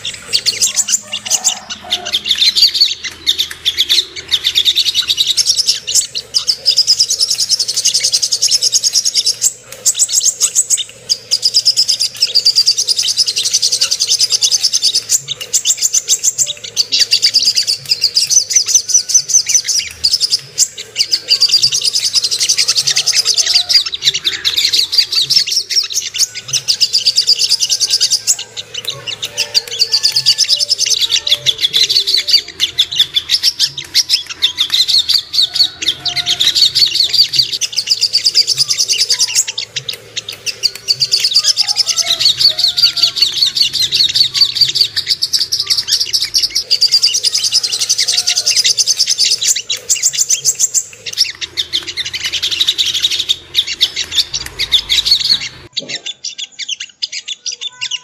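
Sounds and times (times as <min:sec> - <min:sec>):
bird singing chattering trill: 0:00.0 - 0:58.0.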